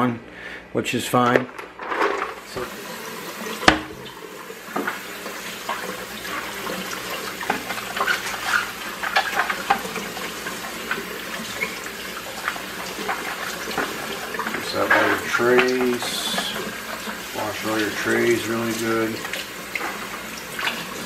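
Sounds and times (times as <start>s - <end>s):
faucet running into a metal sink: 2.3s - 21.0s.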